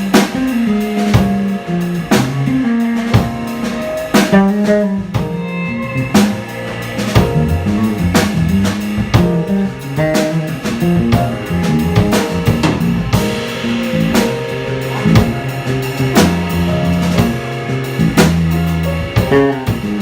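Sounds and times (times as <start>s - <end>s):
drum kit: 0.0s - 20.0s
piano notes: 0.0s - 20.0s
walking bass: 0.0s - 20.0s
guitar notes: 1.5s - 17.8s.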